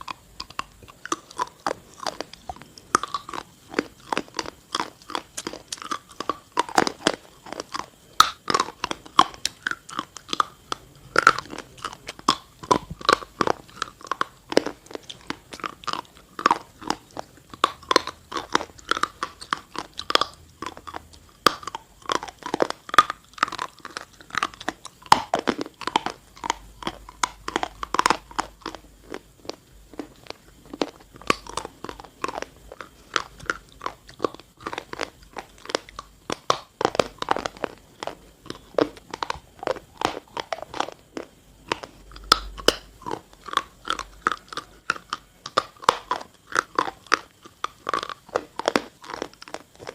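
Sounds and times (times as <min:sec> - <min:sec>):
crunchy chewing: 0:00.0 - 0:49.9.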